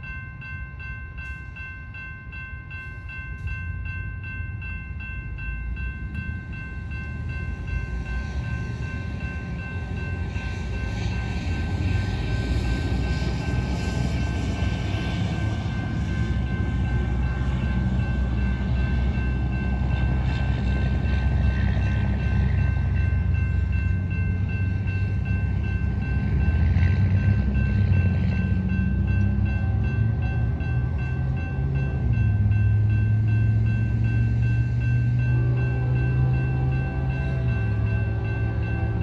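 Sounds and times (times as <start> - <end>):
freight train rumble: 0.0 - 39.0.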